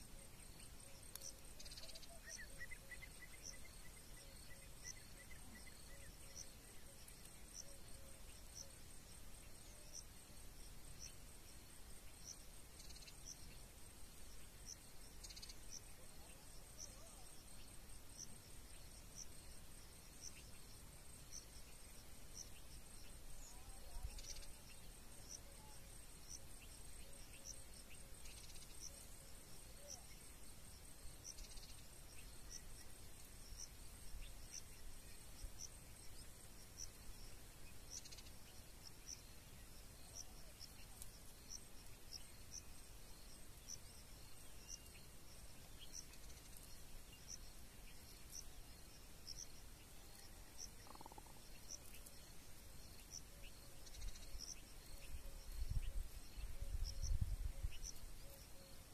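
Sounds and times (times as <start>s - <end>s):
insect chirps: 0.0s - 58.9s
insect trill: 0.0s - 58.9s.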